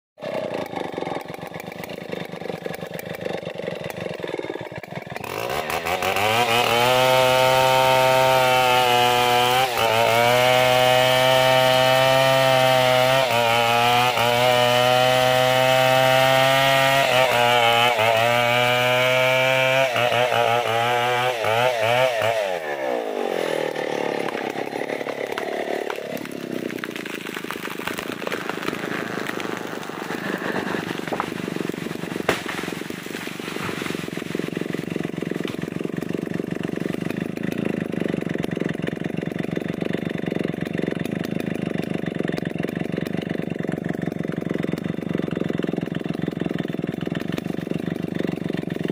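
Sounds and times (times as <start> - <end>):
chainsaw cutting into tree trunk: 0.2 - 48.9.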